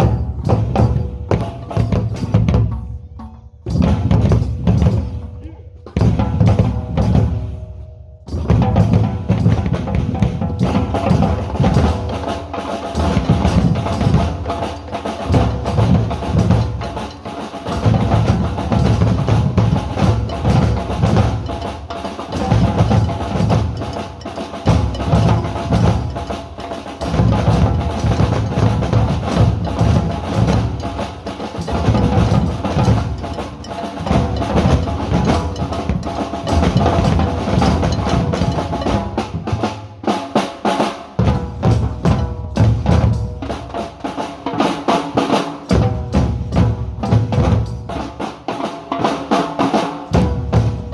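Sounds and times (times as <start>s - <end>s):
group of drums playing: 0.0s - 50.9s.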